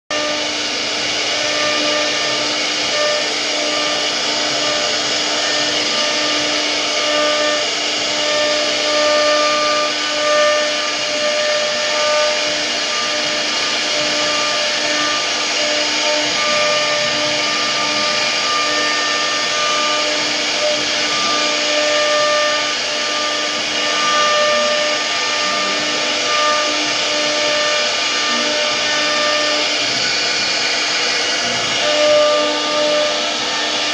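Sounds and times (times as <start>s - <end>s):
bit cutting wood: 0.1s - 33.9s
router spindle whining: 0.1s - 33.9s.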